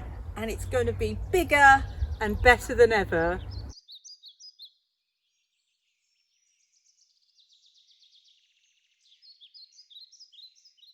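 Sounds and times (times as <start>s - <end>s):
small birds chirping: 0.0s - 10.9s.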